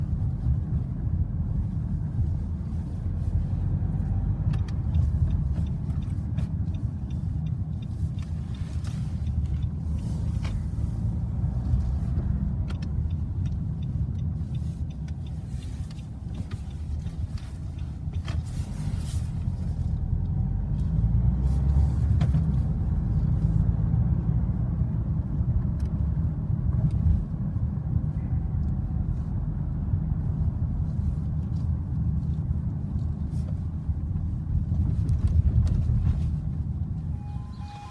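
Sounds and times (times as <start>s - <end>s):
cars passing with low rumble: 0.0s - 37.9s.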